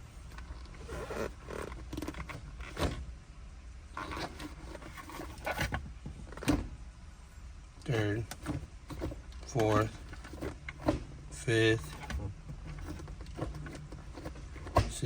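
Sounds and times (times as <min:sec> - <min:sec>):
gear shifter scraping and knocking: 0:00.3 - 0:03.1, 0:03.9 - 0:06.8, 0:07.8 - 0:15.0.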